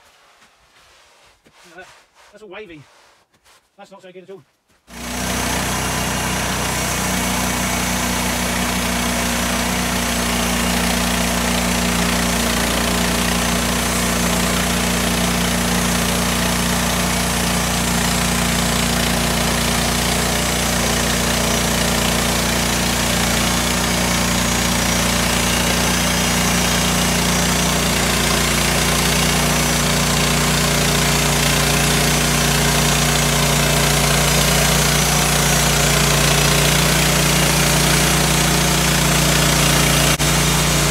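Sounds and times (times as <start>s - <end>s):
sawmill engine running: 4.9s - 40.9s.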